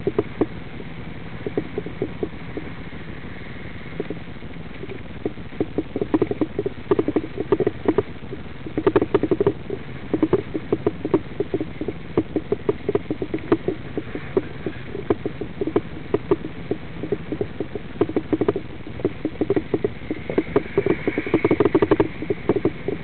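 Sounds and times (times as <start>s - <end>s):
faint high whine: 0.0s - 23.0s
low rumble: 0.0s - 23.0s.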